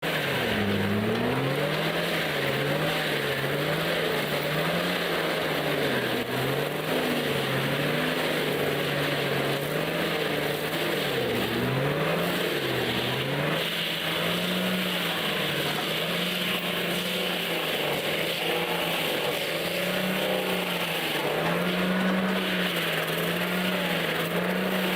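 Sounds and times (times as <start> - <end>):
heavy machine engine running: 0.0 - 24.9.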